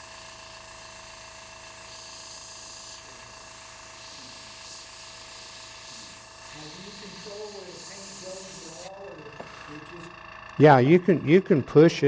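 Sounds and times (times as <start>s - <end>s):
airbrush hissing: 0.0s - 11.4s.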